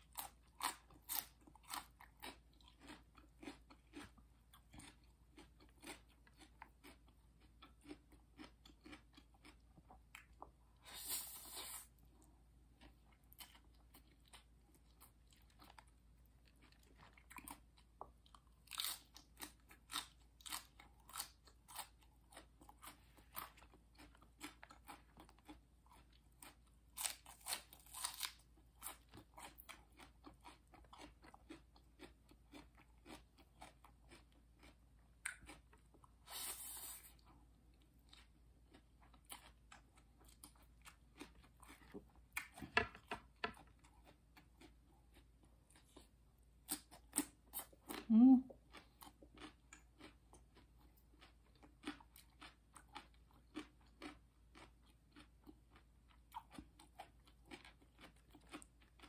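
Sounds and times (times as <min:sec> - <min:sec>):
person crunching raw vegetables: 0:00.0 - 0:59.0.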